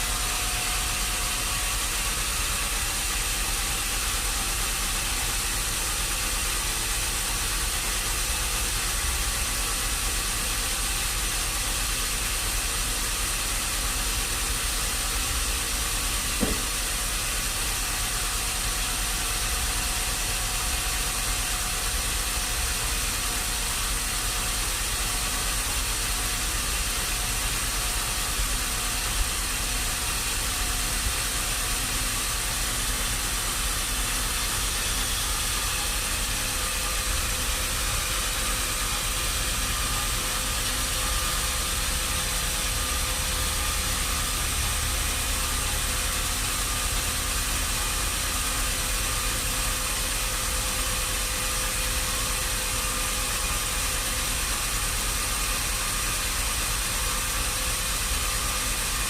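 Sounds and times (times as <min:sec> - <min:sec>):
machinery running with hiss: 0:00.0 - 0:59.0.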